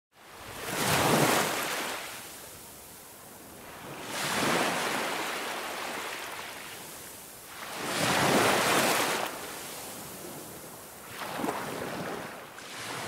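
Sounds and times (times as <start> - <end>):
ocean surf breaking on beach: 0.2 - 13.0.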